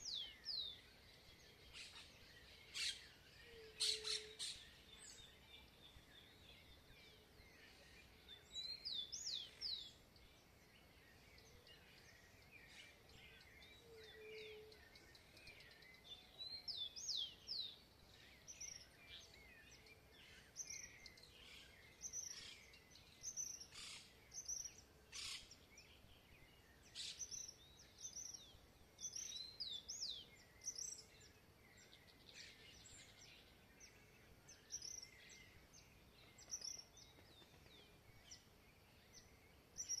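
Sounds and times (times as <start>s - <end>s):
faint steady hiss: 0.0s - 40.0s
songbirds singing: 0.0s - 40.0s.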